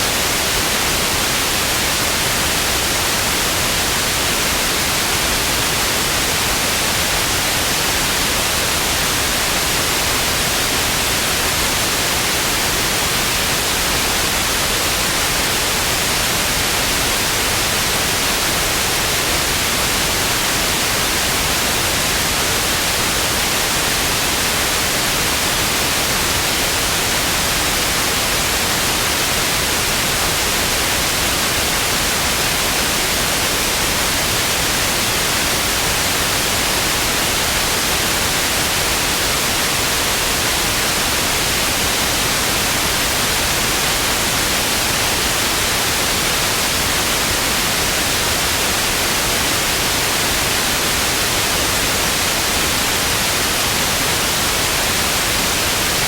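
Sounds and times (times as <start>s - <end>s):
television static hiss: 0.0s - 56.0s.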